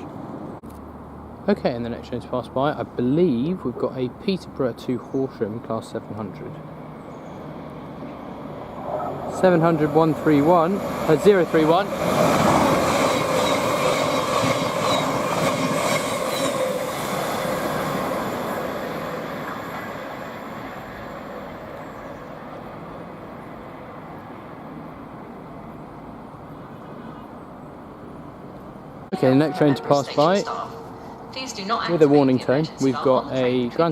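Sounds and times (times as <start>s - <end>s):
electric train running past: 6.5s - 33.9s.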